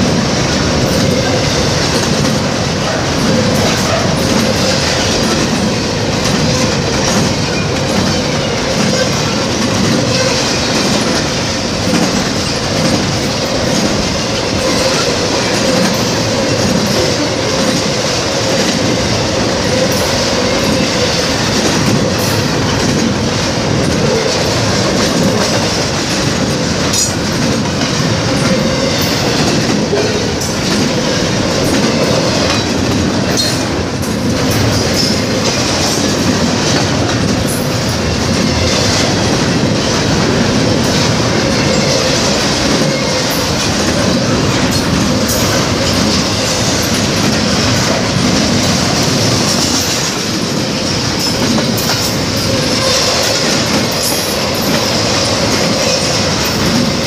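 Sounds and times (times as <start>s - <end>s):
steel wheels rolling on rail: 0.0s - 57.0s.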